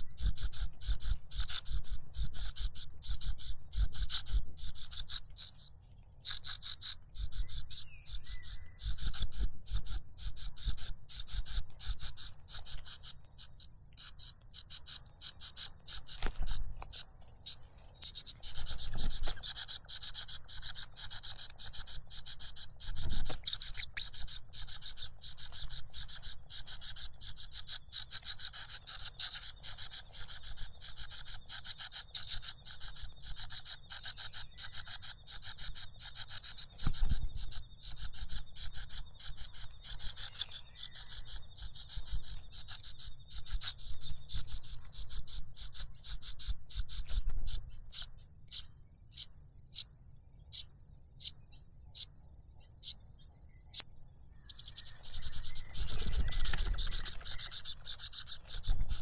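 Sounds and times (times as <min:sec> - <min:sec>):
nestlings cheeping: 0:00.0 - 0:59.0.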